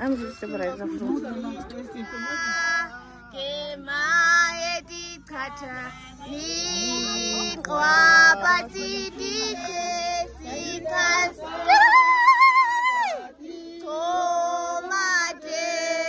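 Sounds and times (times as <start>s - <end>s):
high voices singing: 0.0s - 16.0s.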